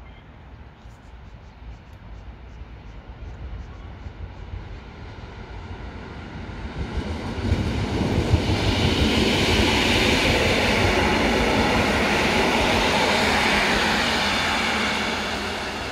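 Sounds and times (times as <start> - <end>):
train passing with wheel rumble: 0.0 - 15.9.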